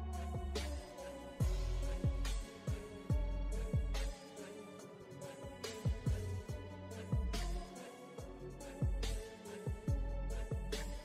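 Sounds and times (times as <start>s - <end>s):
workout music with steady beat: 0.0s - 11.0s.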